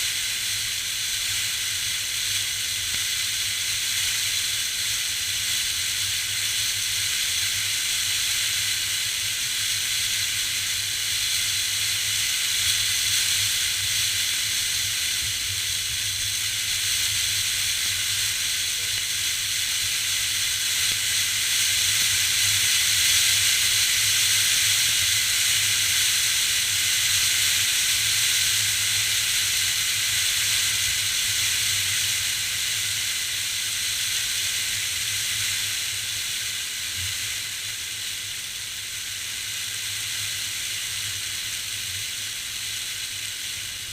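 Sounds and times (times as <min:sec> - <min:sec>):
wind-blown sand hissing: 0:00.0 - 0:43.9.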